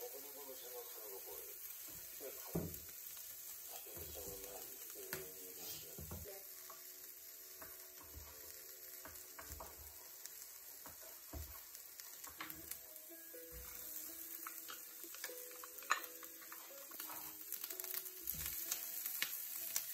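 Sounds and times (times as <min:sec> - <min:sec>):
vegetables sizzling in a frying pan: 0:00.0 - 0:19.9.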